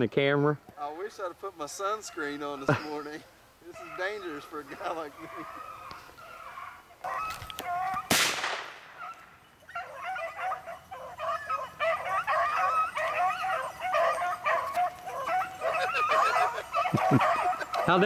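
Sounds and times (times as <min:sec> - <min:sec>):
hounds baying: 0:00.7 - 0:08.1, 0:08.8 - 0:18.0.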